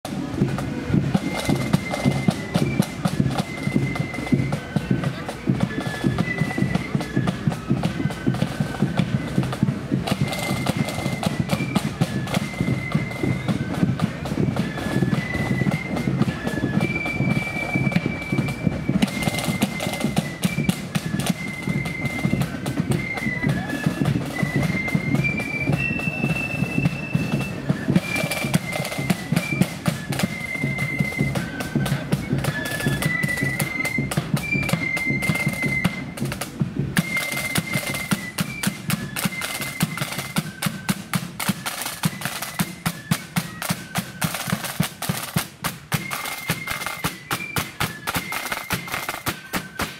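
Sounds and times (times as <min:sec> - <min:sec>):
flutes playing a melody: 0:00.0 - 0:49.9
rattling snare drums: 0:00.0 - 0:49.9.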